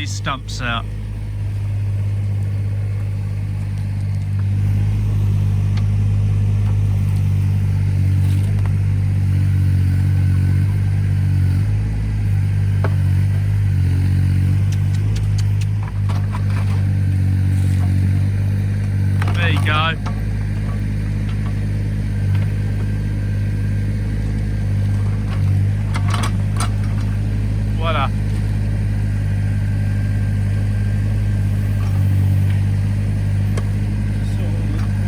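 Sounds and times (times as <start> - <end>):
machine engine running under load: 0.0 - 35.0.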